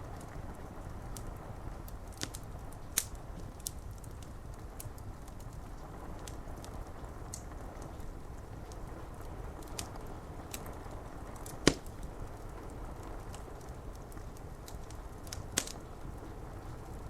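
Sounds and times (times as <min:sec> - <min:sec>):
rain on window glass: 0:00.0 - 0:17.0
wood fire crackling and popping: 0:00.0 - 0:17.0.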